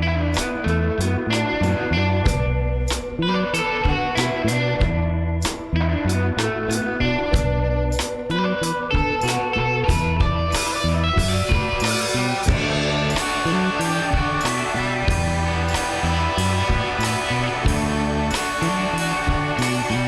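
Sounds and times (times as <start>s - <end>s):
guitar-led rock music: 0.0s - 20.0s.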